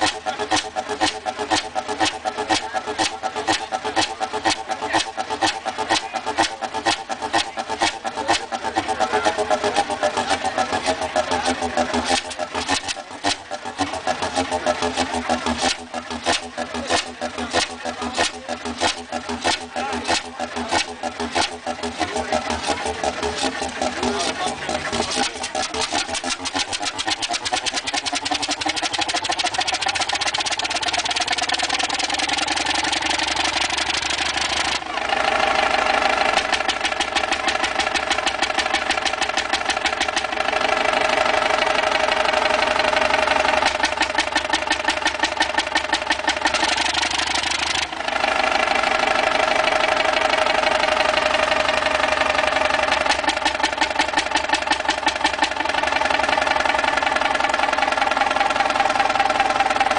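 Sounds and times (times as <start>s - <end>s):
piston engine knocking: 0.0s - 59.9s.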